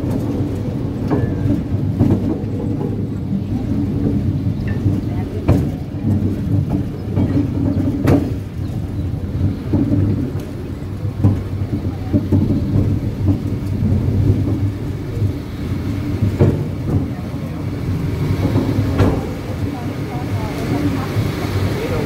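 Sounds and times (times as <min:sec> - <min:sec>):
funicular car low rumble: 0:00.0 - 0:22.0.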